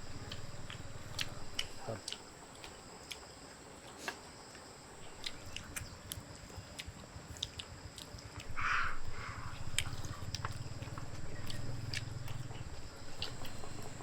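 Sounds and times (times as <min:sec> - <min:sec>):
people chewing: 0:00.0 - 0:14.0.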